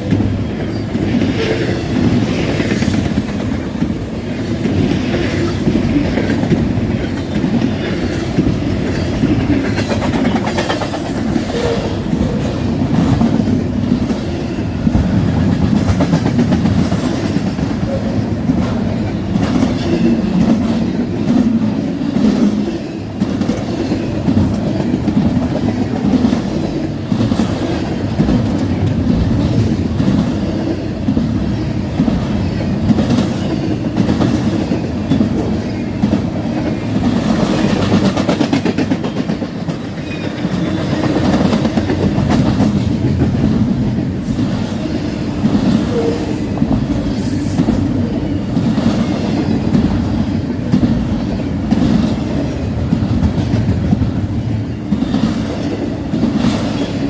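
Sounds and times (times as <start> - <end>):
train wheels clattering over rails: 0.0 - 57.0.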